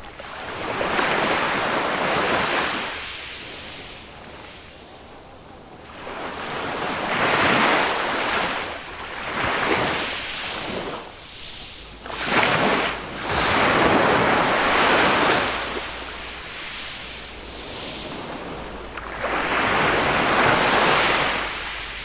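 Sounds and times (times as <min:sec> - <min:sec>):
small waves washing on a beach: 0:00.0 - 0:22.0.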